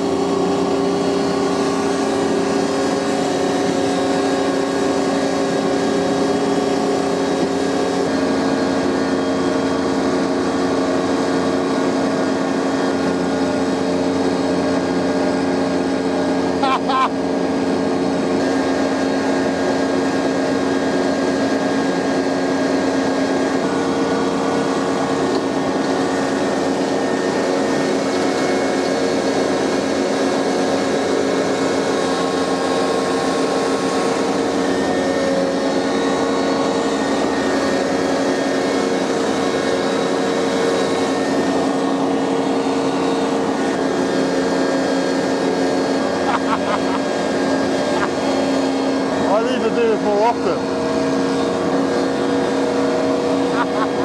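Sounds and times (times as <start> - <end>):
mower deck cutting grass: 0.0 - 54.0
tractor engine running: 0.0 - 54.0.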